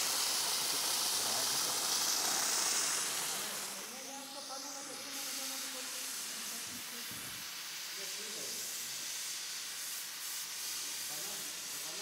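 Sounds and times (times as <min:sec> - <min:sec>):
steam cleaner hissing: 0:00.0 - 0:12.0.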